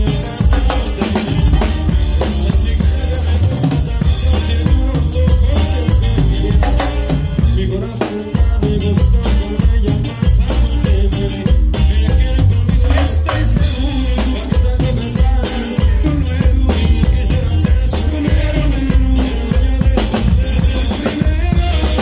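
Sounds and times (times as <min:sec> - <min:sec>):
bass line: 0:00.0 - 0:22.0
drum kit beat: 0:00.0 - 0:22.0
live band music: 0:00.0 - 0:22.0.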